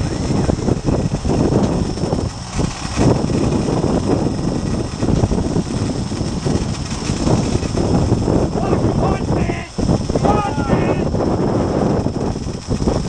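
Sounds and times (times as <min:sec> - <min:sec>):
boat engine running: 0:00.0 - 0:13.0
wind gusting on microphone: 0:00.0 - 0:13.0.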